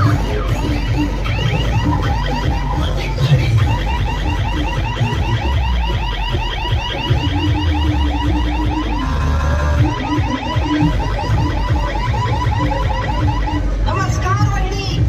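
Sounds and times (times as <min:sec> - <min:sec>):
electronic warbling chirp: 0:00.0 - 0:13.9
heavy bass: 0:00.0 - 0:15.0.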